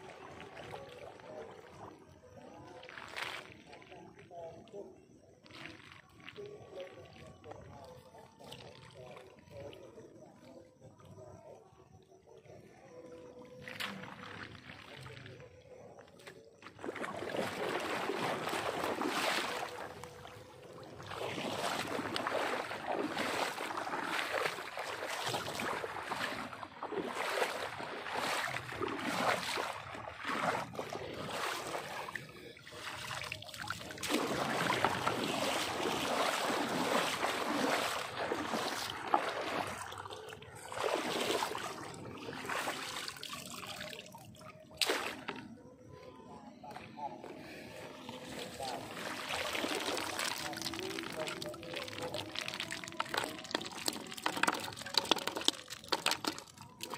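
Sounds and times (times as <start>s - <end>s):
water sloshing around wading legs: 0.0s - 11.3s, 12.0s - 56.9s.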